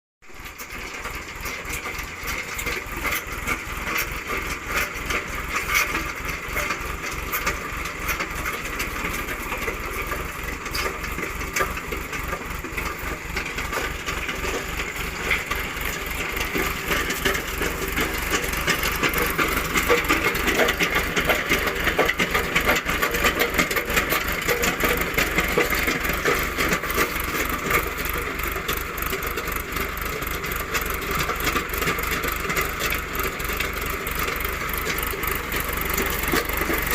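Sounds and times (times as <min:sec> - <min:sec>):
auger crackling and grinding: 0:00.2 - 0:36.9
tractor engine running: 0:00.2 - 0:36.9.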